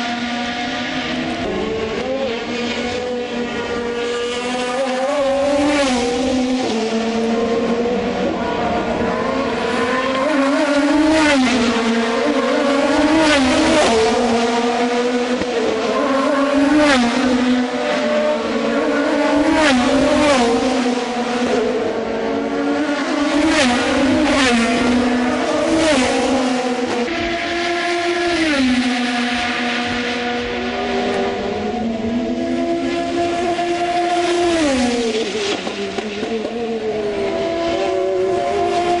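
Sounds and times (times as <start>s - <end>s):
race car engines passing: 0.0s - 39.0s.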